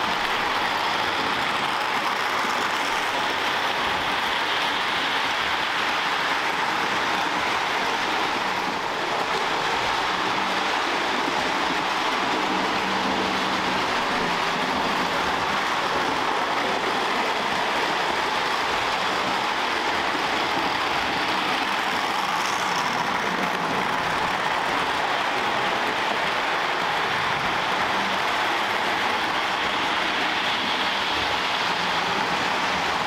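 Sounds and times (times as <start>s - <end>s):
model train wheels rolling: 0.0s - 33.0s.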